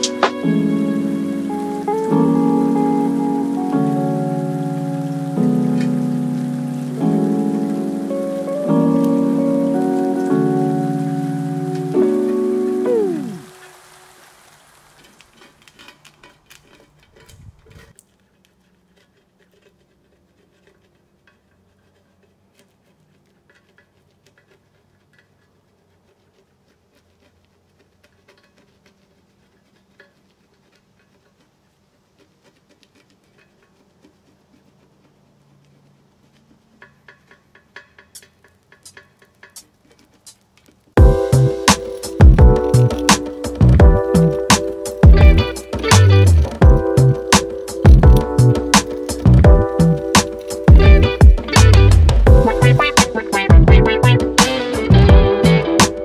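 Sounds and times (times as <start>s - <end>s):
plastic scraper ticking and scraping: 0.0s - 13.7s, 14.9s - 56.0s.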